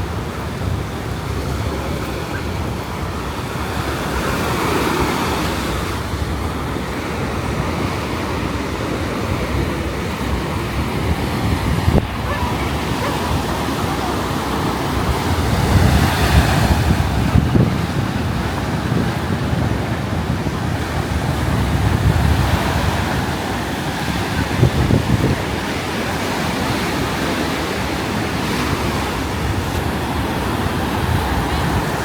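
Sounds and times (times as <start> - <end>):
surf washing onto beach: 0.0 - 32.0
wind buffeting microphone: 0.0 - 32.0.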